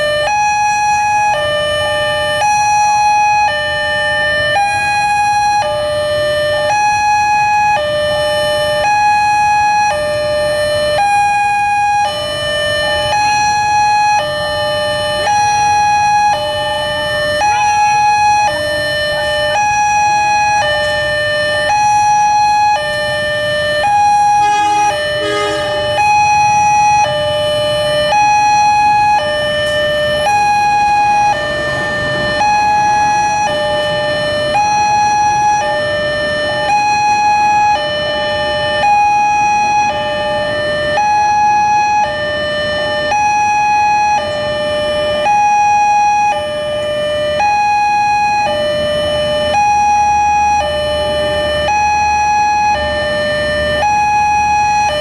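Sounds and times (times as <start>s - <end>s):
low road traffic rumble: 0.0s - 45.2s
two-tone level crossing alarm: 0.0s - 55.0s.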